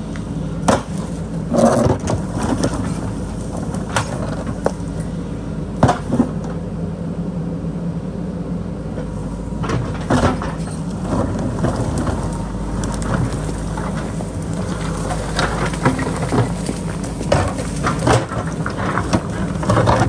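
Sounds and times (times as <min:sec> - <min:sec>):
rock and bucket clatter: 0:00.0 - 0:06.6, 0:09.0 - 0:20.0
diesel engine under load: 0:00.0 - 0:20.0.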